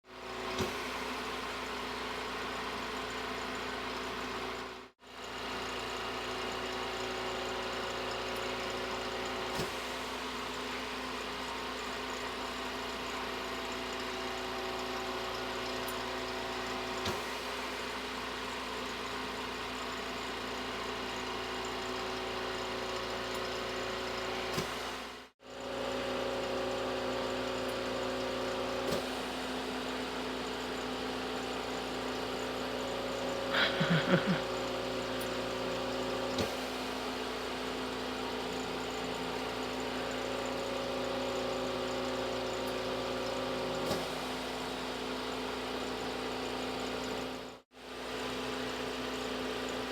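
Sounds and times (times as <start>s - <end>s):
steady mechanical hum: 0.1s - 49.9s.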